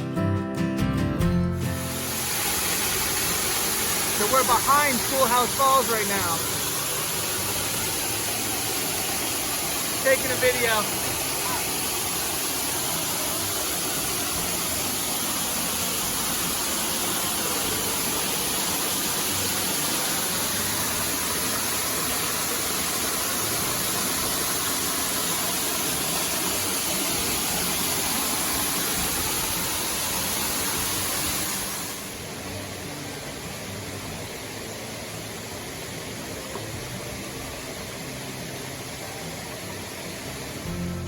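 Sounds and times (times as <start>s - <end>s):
waterfall rushing: 1.7s - 41.0s.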